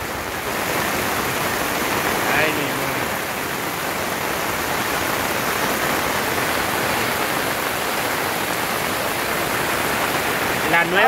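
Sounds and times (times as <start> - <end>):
floodwater rushing: 0.0 - 11.0
heavy rain hissing: 0.0 - 11.0.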